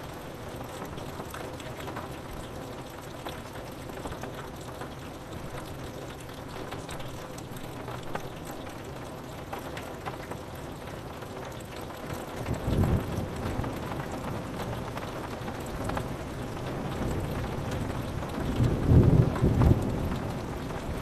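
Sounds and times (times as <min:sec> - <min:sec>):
rain on window glass: 0:00.0 - 0:21.0
raindrop taps: 0:00.6 - 0:21.0.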